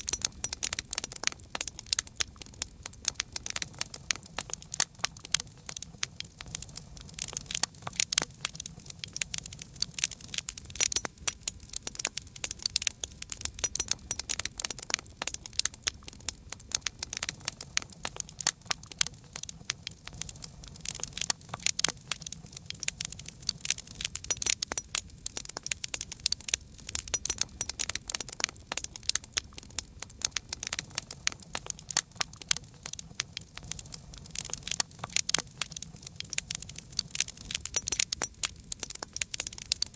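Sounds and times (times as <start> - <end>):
campfire crackling: 0.0 - 39.9
low rumble of flames: 0.0 - 39.9.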